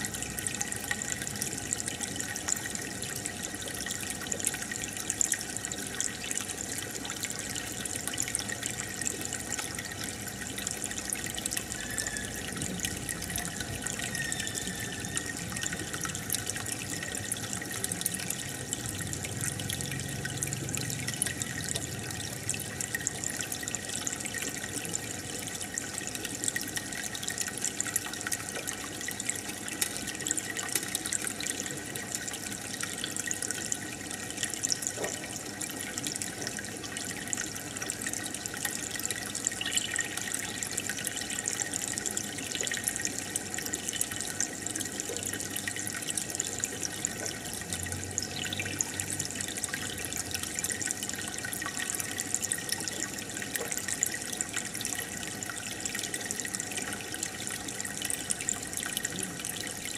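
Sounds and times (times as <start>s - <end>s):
aquarium filter water trickling: 0.0s - 59.9s.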